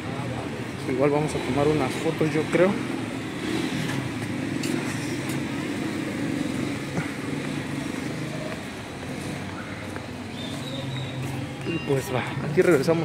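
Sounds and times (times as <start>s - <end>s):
traffic engines humming: 0.0s - 13.0s.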